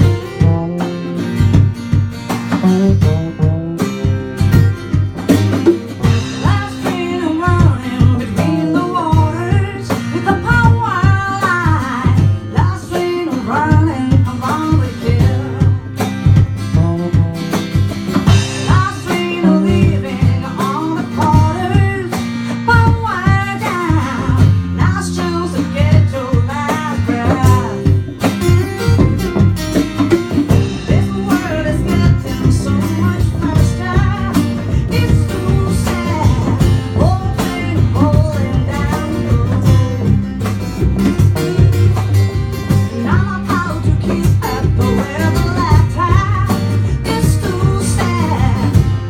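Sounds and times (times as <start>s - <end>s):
acoustic guitar: 0.0s - 49.0s
bass line: 0.0s - 49.0s
percussion: 0.0s - 49.0s
person singing: 6.0s - 17.6s, 18.3s - 29.1s, 30.3s - 49.0s.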